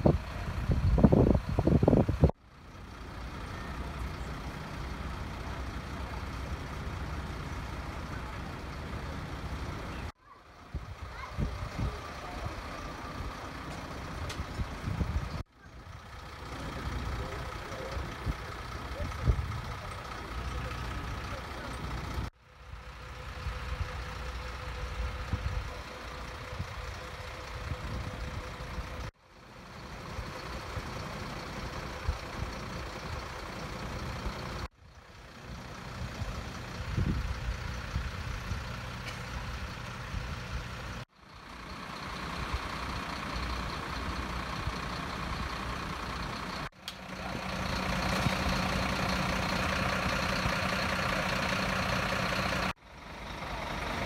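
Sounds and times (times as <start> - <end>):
diesel engines idling: 0.0 - 54.0.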